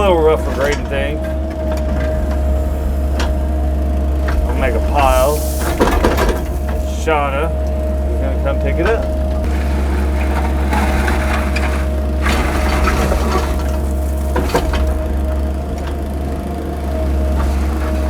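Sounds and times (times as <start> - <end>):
bucket scraping through gravel: 0.0 - 16.0, 16.9 - 18.0
excavator engine whining: 0.0 - 18.0.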